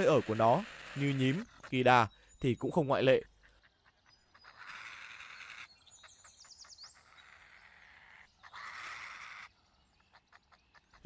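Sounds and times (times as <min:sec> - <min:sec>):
high bird chirps: 0:00.0 - 0:11.0.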